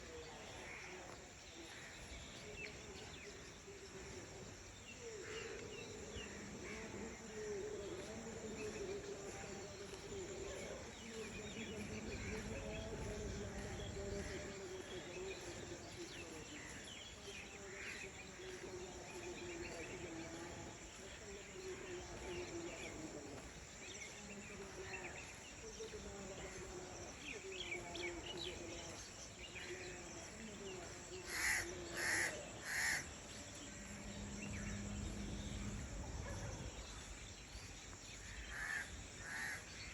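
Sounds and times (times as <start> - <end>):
insects: 0.0 - 39.9
small birds chirping: 0.0 - 39.9.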